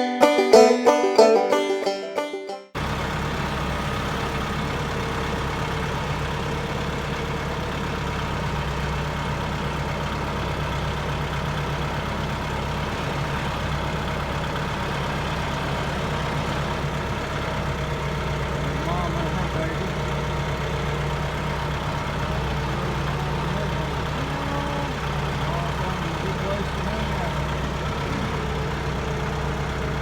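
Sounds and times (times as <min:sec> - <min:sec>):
vehicle engine running steadily: 0:02.8 - 0:30.0.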